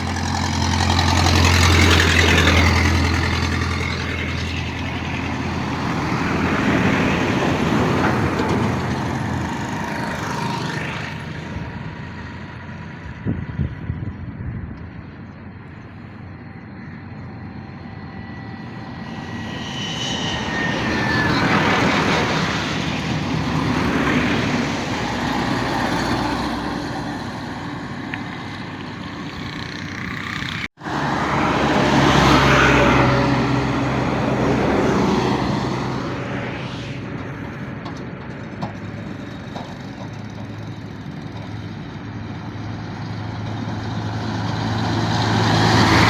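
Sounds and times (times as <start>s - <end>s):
trucks passing: 0.0s - 46.0s.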